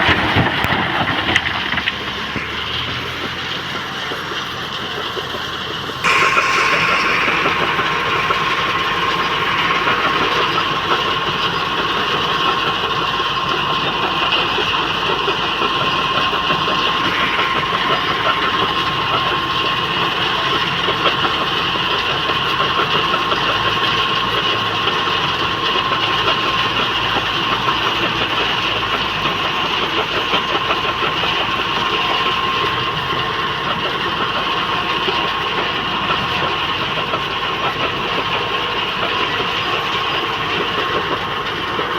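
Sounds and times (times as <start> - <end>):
heavy machinery diesel engine: 0.0 - 41.9.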